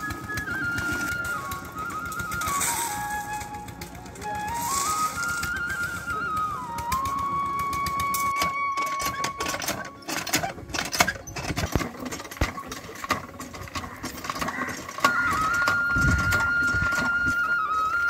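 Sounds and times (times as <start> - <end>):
flute melody: 0.0 - 12.5, 14.9 - 18.0
hand pump clanking: 0.0 - 18.0.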